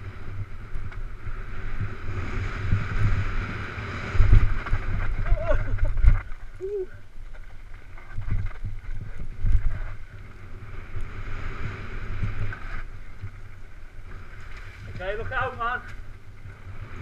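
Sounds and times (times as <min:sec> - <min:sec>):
bike thudding over bumps: 0:00.0 - 0:17.0
wind rushing over microphone: 0:00.0 - 0:17.0.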